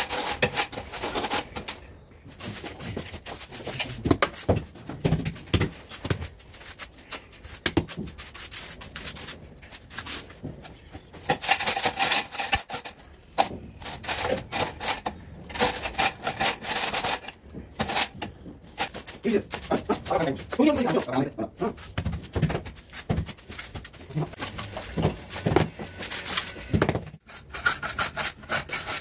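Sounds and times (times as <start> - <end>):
gritty scraping on mortar: 0.0 - 4.7, 5.8 - 29.0.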